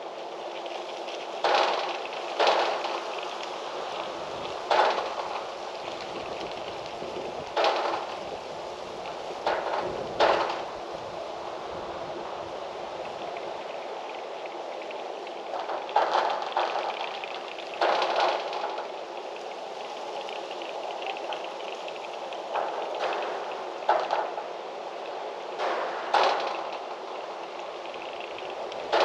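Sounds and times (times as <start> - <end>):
rushing wind: 0.0 - 29.0.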